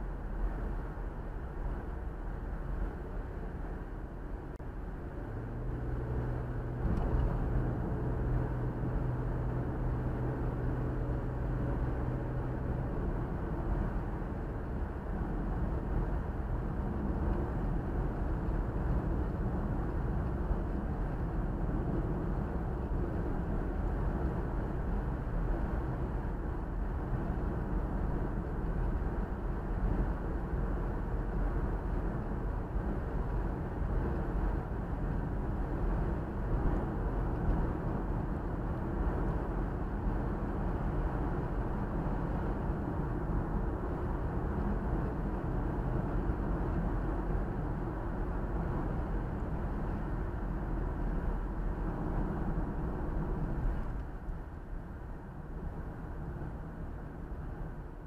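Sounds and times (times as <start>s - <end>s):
car tyre and engine rumble: 0.0s - 58.0s.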